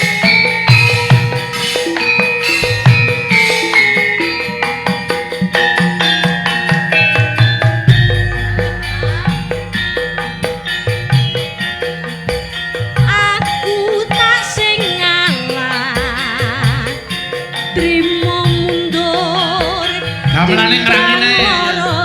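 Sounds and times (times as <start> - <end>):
drum strokes: 0.0 - 22.0
ringing metallophone tones: 0.0 - 22.0
wavering melody line: 0.0 - 22.0.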